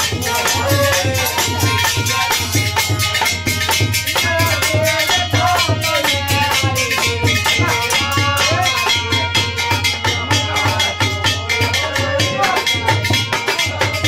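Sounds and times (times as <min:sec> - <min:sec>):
fast steady drum beat: 0:00.0 - 0:14.0
shaken rattling percussion: 0:00.0 - 0:14.0.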